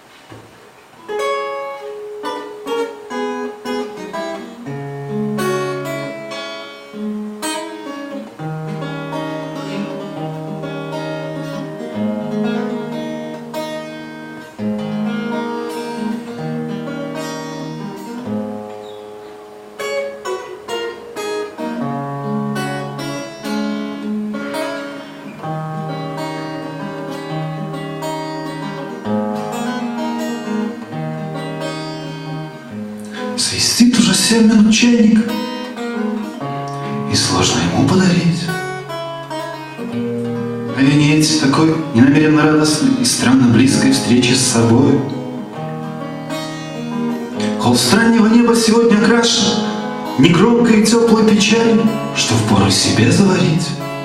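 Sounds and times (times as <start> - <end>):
acoustic guitar picking: 0.0 - 54.0.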